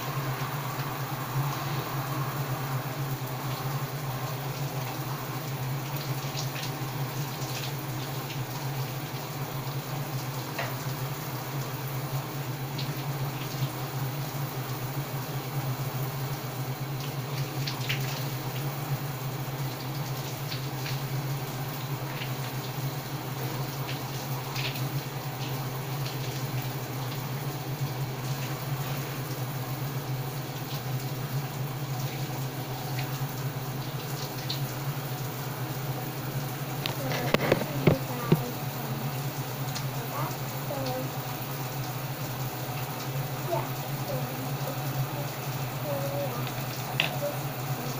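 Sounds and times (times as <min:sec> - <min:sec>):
faint water splashes: 0:00.0 - 0:47.9
low steady hum: 0:00.0 - 0:47.9
water running: 0:00.0 - 0:47.9.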